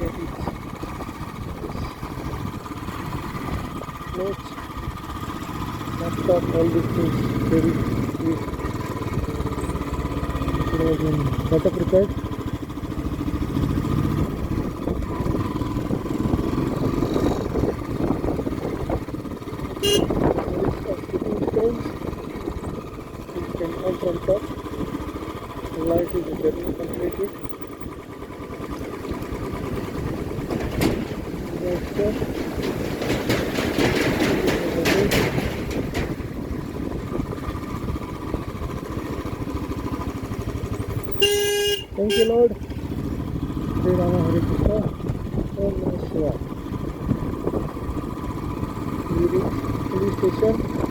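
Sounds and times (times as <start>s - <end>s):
rattling: 0.0s - 50.9s
road noise: 0.0s - 50.9s
vehicle engine running: 0.0s - 50.9s.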